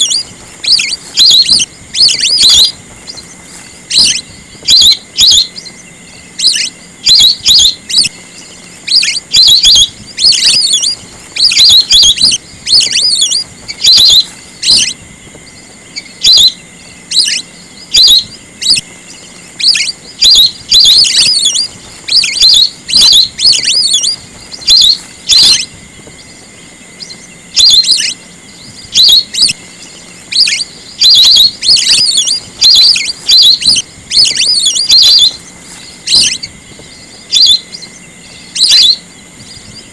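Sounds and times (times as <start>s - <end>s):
ducks whistling calls: 0.0s - 39.9s.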